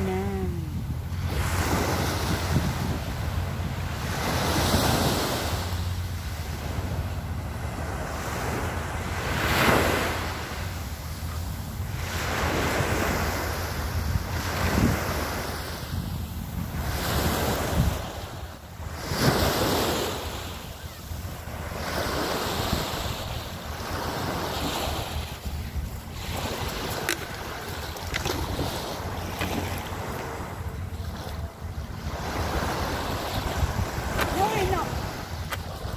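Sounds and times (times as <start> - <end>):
wind rumbling on microphone: 0.0 - 9.9, 11.6 - 35.9
small waves on sandy beach: 0.0 - 35.9.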